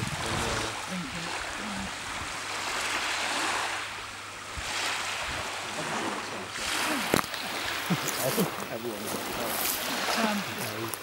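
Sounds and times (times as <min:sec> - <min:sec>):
small waves washing on beach: 0:00.0 - 0:11.0.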